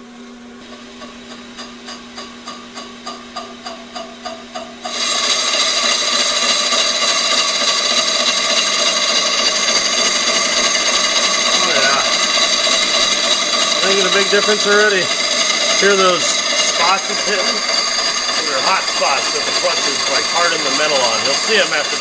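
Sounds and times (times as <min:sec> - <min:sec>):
brake lathe cutting bit ringing: 0:01.6 - 0:22.0.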